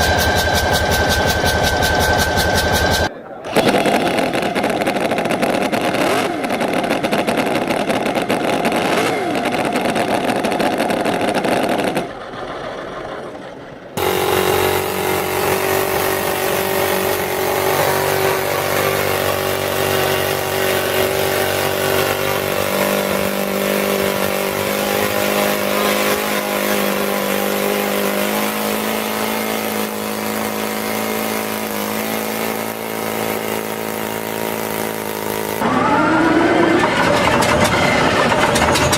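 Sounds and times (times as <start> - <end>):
engine running steadily: 0.0 - 38.9
high-pitched engine running: 0.0 - 38.9.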